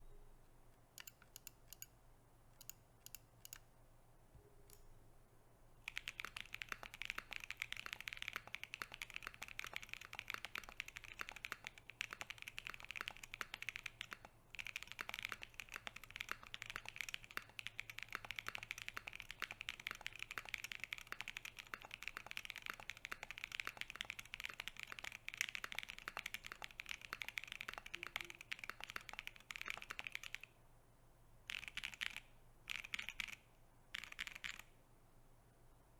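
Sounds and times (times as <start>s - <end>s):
mechanical keyboard typing: 1.0s - 1.9s, 2.6s - 3.7s, 5.8s - 30.5s, 31.5s - 34.7s.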